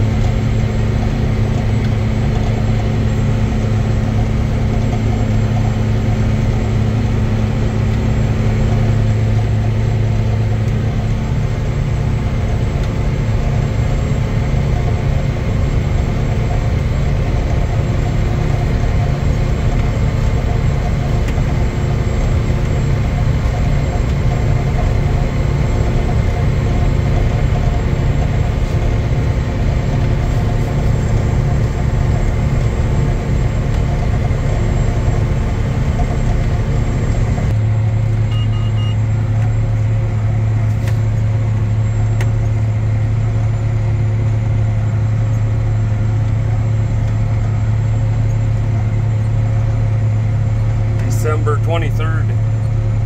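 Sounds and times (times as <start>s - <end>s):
tractor diesel engine under load: 0.0s - 53.0s.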